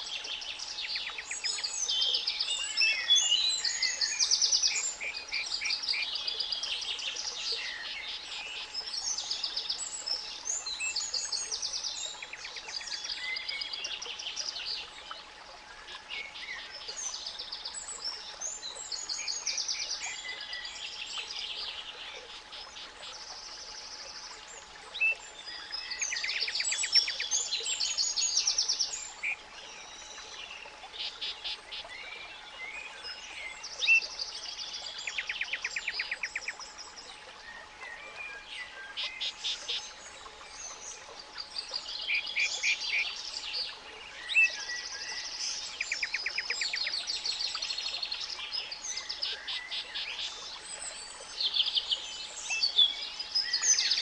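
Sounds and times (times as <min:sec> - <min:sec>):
songbirds singing and trilling: 0:00.0 - 0:54.0.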